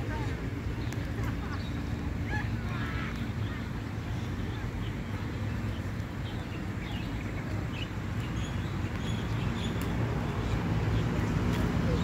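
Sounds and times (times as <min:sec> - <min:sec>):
low rumble of traffic or wind: 0:00.0 - 0:12.0
small birds chirping: 0:00.1 - 0:12.0.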